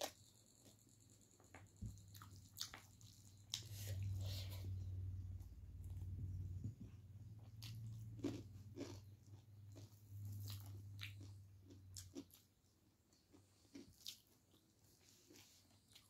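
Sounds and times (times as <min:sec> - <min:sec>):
low steady hum: 0:00.0 - 0:16.0
person chewing and eating: 0:00.0 - 0:16.0.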